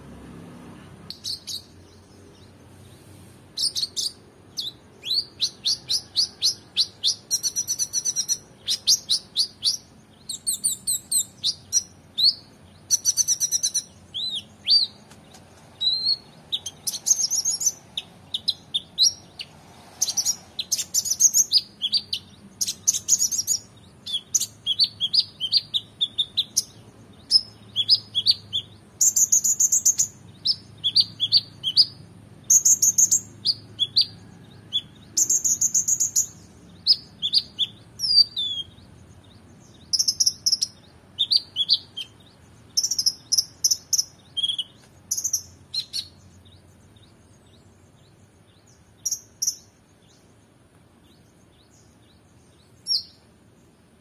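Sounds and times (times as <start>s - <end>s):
sunbird singing: 0.7s - 54.0s.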